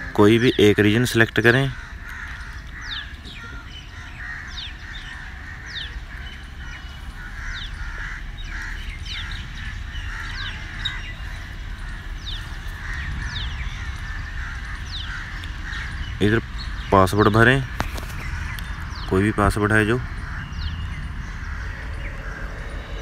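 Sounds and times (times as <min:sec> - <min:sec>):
birds chirping: 0:00.0 - 0:23.0
harsh bird calls: 0:00.0 - 0:23.0
low rumble: 0:00.0 - 0:23.0.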